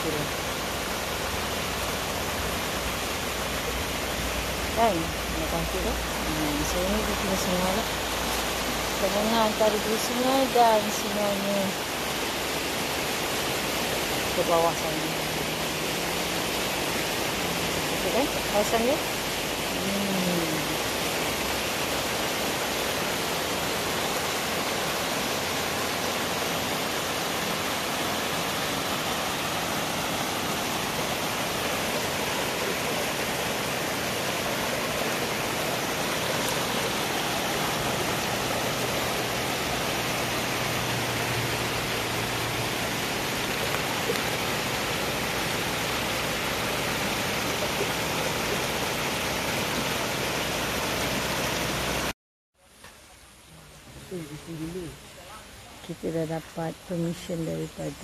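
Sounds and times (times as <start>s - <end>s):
river water rushing: 0.0s - 52.1s.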